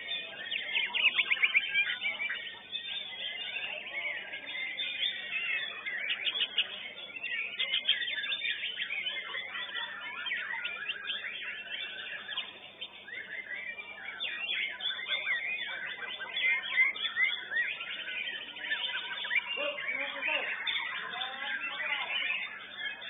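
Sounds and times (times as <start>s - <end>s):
bird singing whistles and trills: 0.0s - 23.0s.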